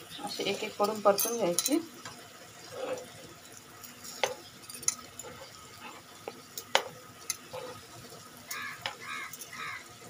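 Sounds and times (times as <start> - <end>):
faint oil sizzle: 0.0 - 10.0.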